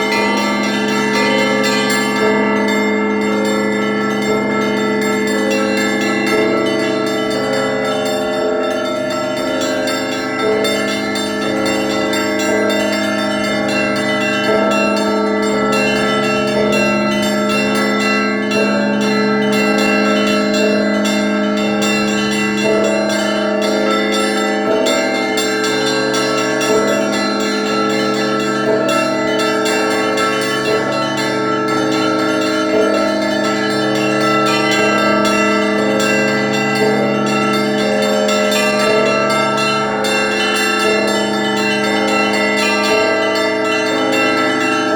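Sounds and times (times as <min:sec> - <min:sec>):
deep bell humming: 0:00.0 - 0:44.9
middle bells striking: 0:00.0 - 0:44.9
small bells chiming rapidly: 0:00.0 - 0:44.9.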